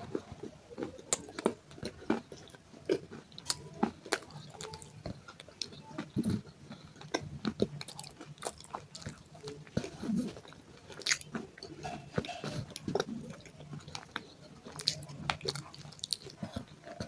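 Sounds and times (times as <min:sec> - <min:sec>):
chewing crunchy clay pieces: 0:00.0 - 0:17.0.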